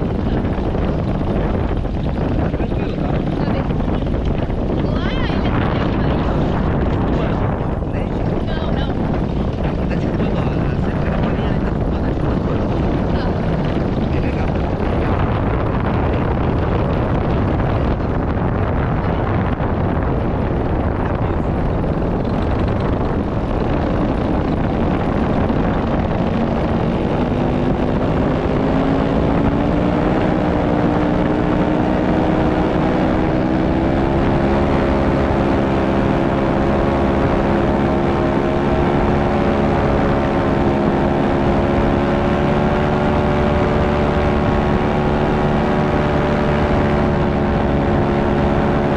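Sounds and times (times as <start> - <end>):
motor-driven propeller running: 0.0 - 48.9
wind noise on microphone: 0.0 - 48.9.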